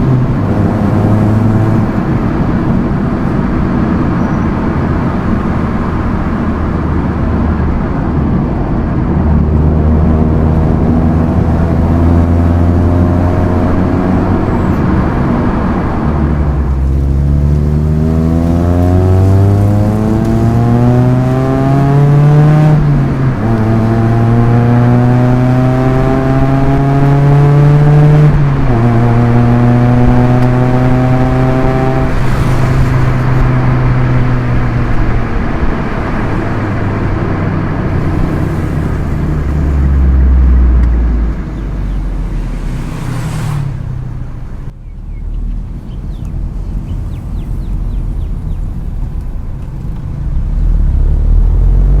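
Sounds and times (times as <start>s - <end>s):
car engine accelerating through gears: 0.0s - 52.0s.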